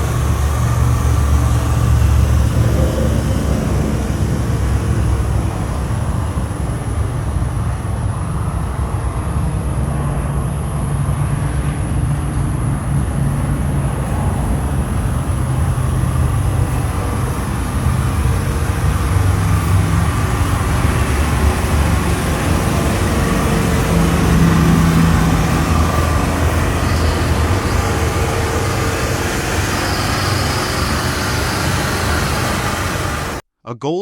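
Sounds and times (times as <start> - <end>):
car engine rumbling: 0.0 - 33.4.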